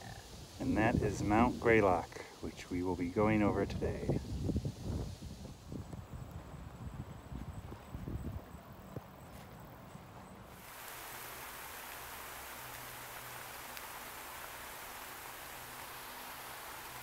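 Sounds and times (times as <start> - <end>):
wind rustling through grass: 0.0 - 17.0.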